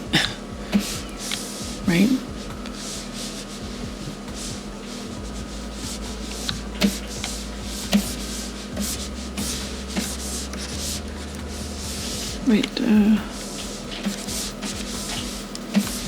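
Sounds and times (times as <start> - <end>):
drawing tool scratching paper: 0.0 - 16.0.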